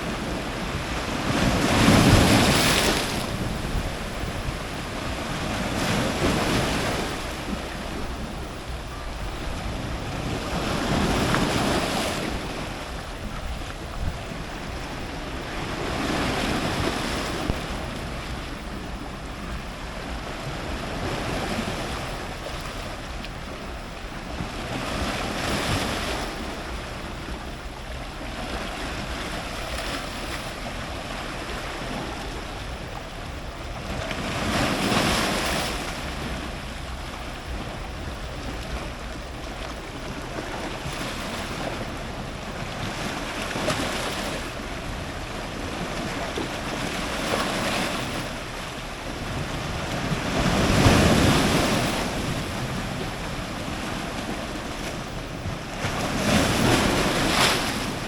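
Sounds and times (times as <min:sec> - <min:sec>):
ocean surf breaking on rocks: 0:00.0 - 0:58.0.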